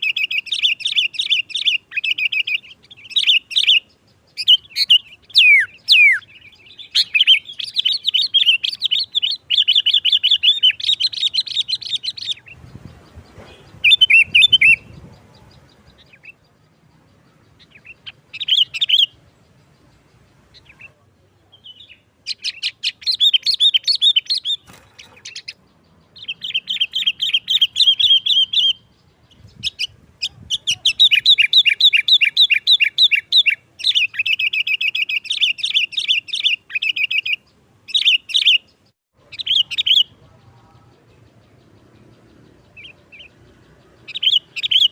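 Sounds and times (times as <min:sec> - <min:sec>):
bird singing chattering notes: 0:00.0 - 0:44.9.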